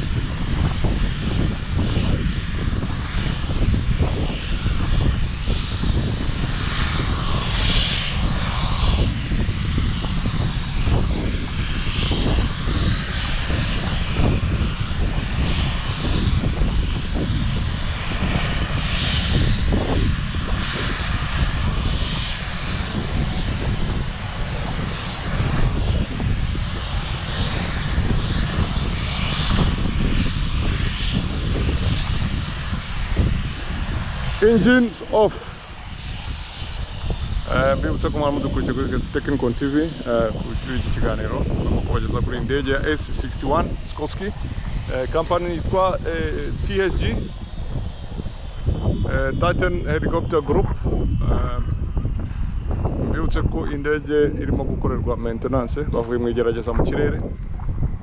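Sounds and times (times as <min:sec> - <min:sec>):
distant helicopter turbine roar: 0:00.0 - 0:58.0
thin high turbine whine: 0:00.0 - 0:58.0
uneven low rumble: 0:00.0 - 0:58.0.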